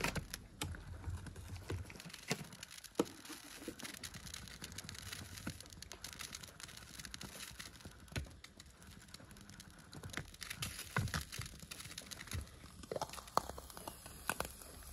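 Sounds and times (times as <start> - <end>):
egg sizzling in a pan: 2.0 - 14.9.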